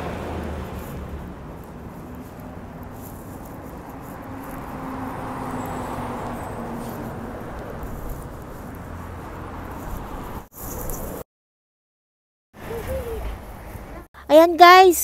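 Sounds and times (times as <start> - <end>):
cars passing: 0.0 - 11.2, 12.6 - 14.4.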